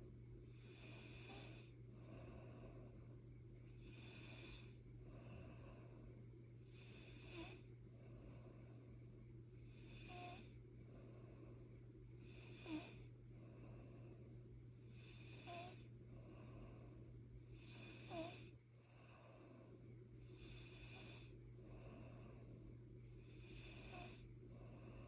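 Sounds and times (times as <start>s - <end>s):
faint slow snoring: 0.5s - 14.3s, 14.9s - 25.0s.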